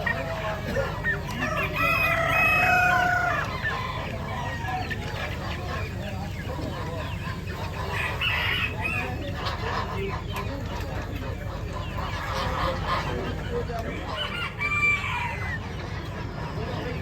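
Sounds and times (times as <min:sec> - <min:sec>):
chickens clucking: 0:00.0 - 0:17.0
roosters crowing: 0:00.0 - 0:17.0.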